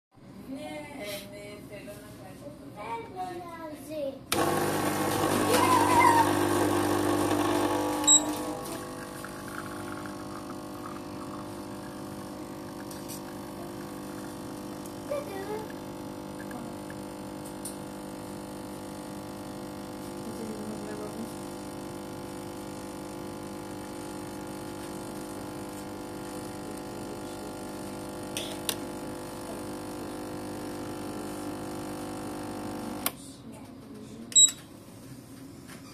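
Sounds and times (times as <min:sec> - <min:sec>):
espresso machine pump humming: 0:04.3 - 0:33.1.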